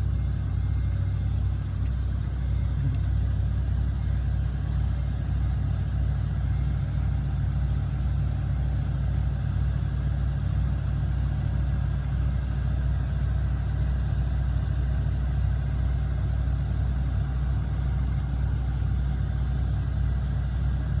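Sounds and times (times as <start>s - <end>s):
heavy machinery diesel engine running: 0.0s - 21.0s.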